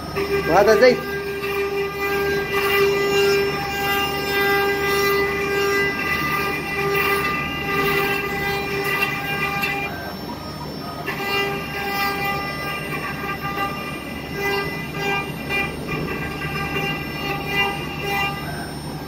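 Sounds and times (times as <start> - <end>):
router bit cutting wood: 0.0 - 19.0
router spindle whining: 0.0 - 19.0.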